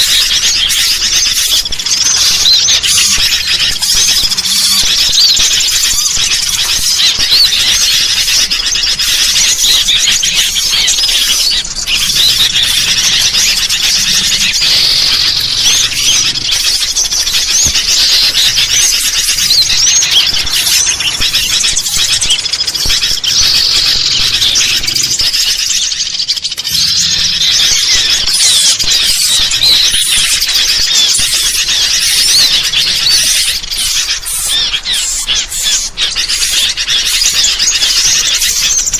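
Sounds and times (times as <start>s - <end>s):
chorus of bulbuls and small birds: 0.0s - 38.9s.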